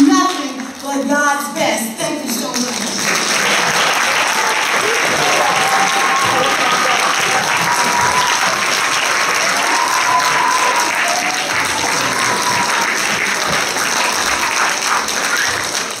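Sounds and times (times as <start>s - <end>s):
congregation applauding: 0.0s - 1.2s, 2.0s - 16.0s.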